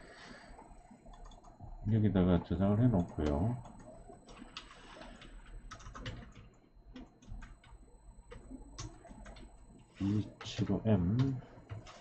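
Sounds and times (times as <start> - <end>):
faint keyboard typing: 0.2 - 12.0.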